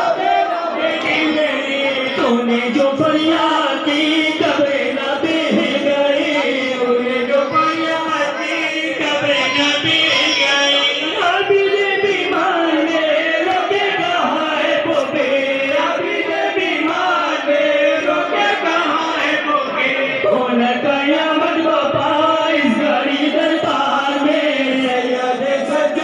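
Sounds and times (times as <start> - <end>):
men chanting through loudspeakers: 0.0 - 26.0.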